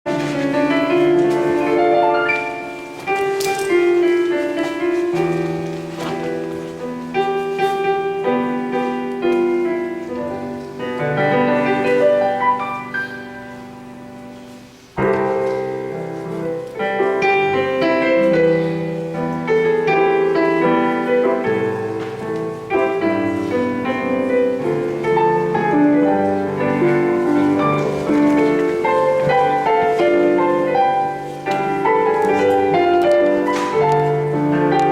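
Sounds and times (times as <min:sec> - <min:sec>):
piano-like keyboard melody: 0:00.0 - 0:34.9.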